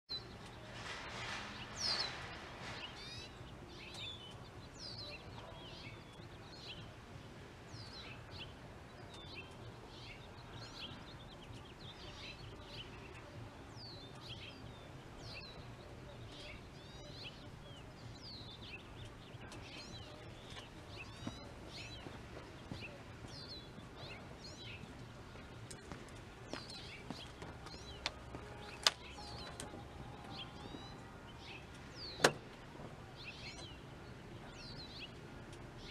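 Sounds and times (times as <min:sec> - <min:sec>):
small birds chirping: 0:00.1 - 0:35.9.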